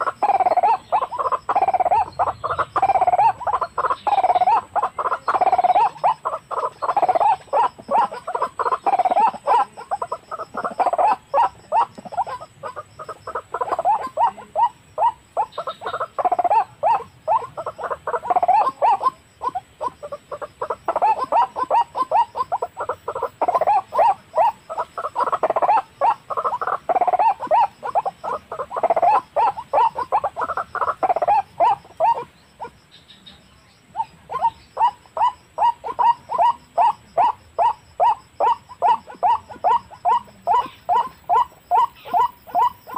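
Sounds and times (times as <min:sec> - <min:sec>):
waterhens croaking: 0:00.0 - 0:42.9.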